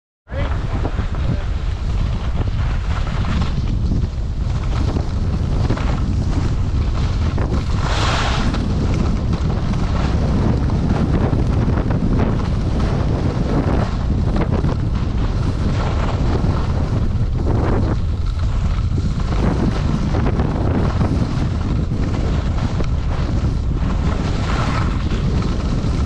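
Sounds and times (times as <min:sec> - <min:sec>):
skis scraping on snow: 0:00.3 - 0:26.0
wind buffeting microphone: 0:00.3 - 0:26.0.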